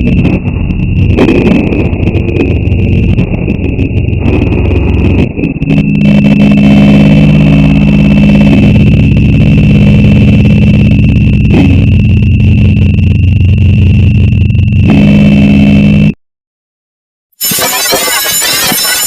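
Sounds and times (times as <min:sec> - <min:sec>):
distorted buzzing jingle: 0:00.0 - 0:16.2, 0:17.4 - 0:19.0
high whine: 0:00.0 - 0:16.2, 0:17.4 - 0:19.0.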